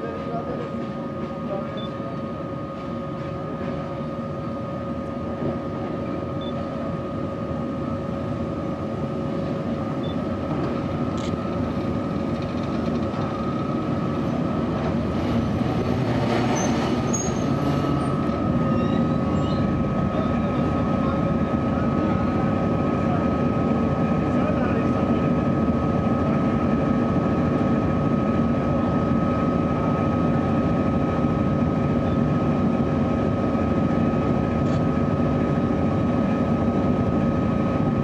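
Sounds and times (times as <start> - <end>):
electric locomotive hum: 0.0 - 38.0
train rumble: 0.0 - 38.0.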